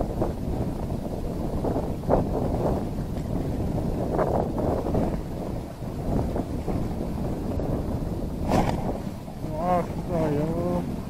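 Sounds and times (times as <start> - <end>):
wind blowing on microphone: 0.0 - 11.0.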